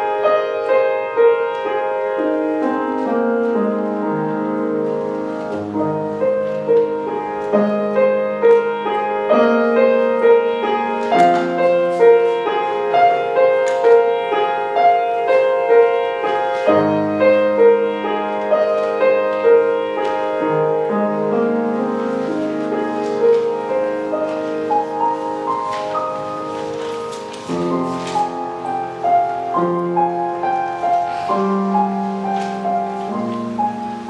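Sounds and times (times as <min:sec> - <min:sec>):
solo grand piano: 0:00.0 - 0:34.0.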